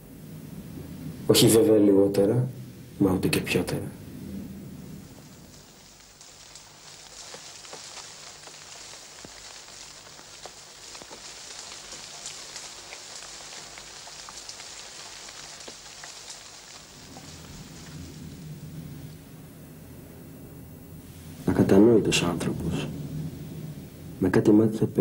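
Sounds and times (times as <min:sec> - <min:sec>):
faint low hum: 0:00.0 - 0:25.0
steady high hiss: 0:00.0 - 0:25.0.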